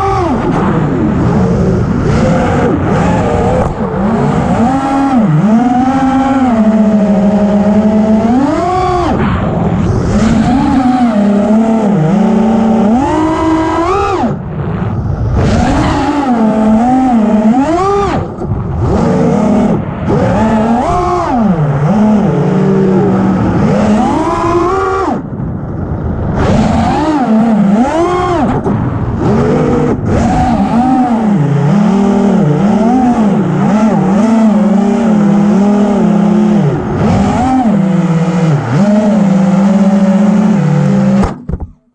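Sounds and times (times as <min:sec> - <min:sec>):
drone motors and propellers whining: 0:00.0 - 0:41.9.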